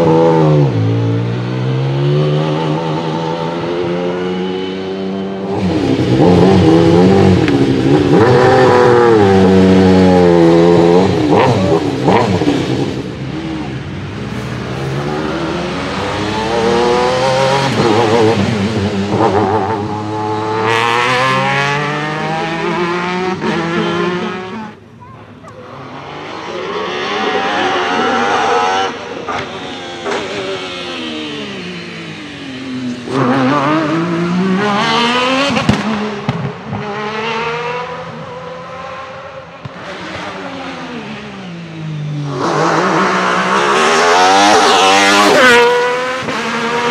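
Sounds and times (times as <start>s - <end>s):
racing car engine revving: 0.0s - 24.8s, 25.6s - 46.9s.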